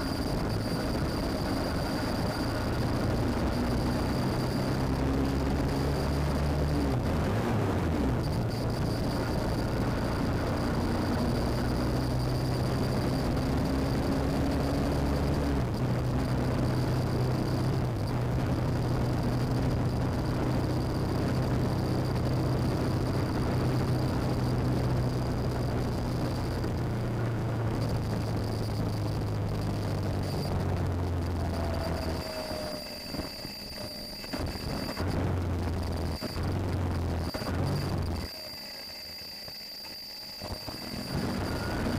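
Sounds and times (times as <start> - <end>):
road noise: 0.0 - 38.5, 40.4 - 41.9.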